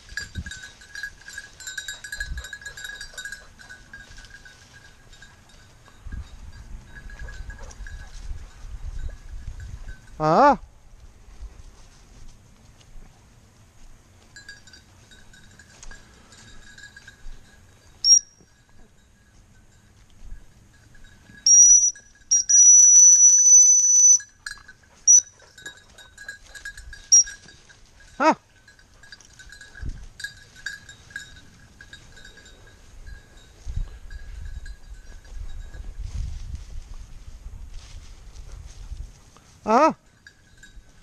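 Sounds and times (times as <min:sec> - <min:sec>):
high collar bell ringing: 0:00.0 - 0:10.6, 0:14.2 - 0:36.6, 0:39.4 - 0:41.0
faint lower bell jingling: 0:00.0 - 0:12.0, 0:14.0 - 0:41.0.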